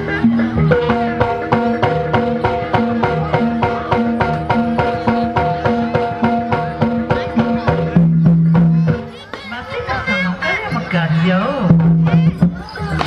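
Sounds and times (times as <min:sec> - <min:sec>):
struck pitched percussion beat: 0:00.0 - 0:09.2, 0:10.8 - 0:13.0
drum strokes: 0:00.0 - 0:09.4, 0:11.5 - 0:13.0.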